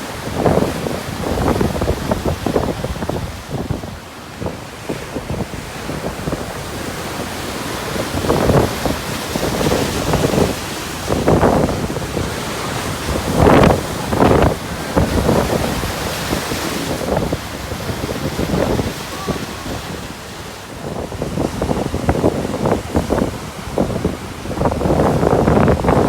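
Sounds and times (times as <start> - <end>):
storm waves breaking: 0.0 - 26.0
wind buffeting microphone: 0.0 - 26.0.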